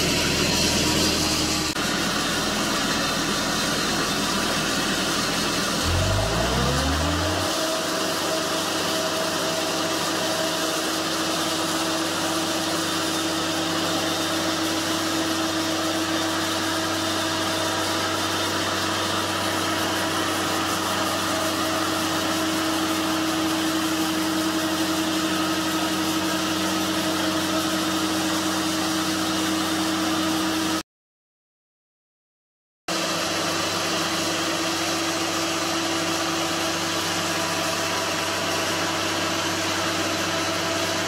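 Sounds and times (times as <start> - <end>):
sawmill engine running steadily: 0.0 - 30.8, 32.9 - 41.0.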